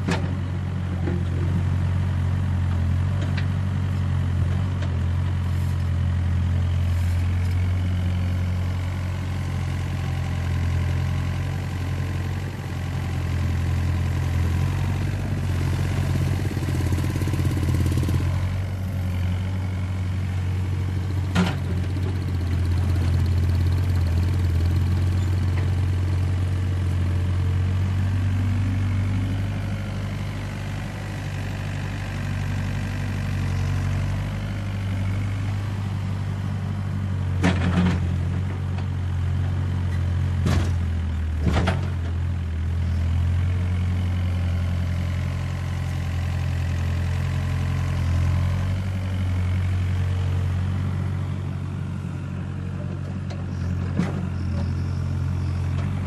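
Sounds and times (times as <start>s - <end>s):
diesel excavator engine running: 0.0s - 56.0s.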